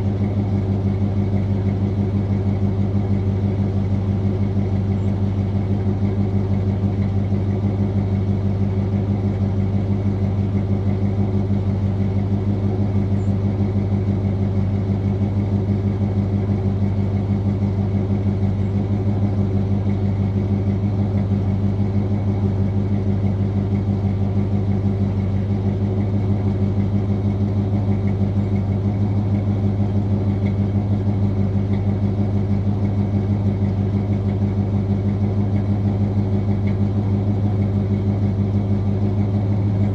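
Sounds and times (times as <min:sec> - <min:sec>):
vbig engine idling: 0:00.0 - 0:39.9.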